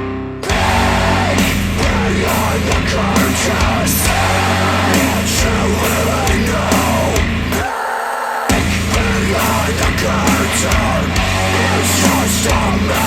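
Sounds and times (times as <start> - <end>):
heavy rock music: 0.0 - 13.0.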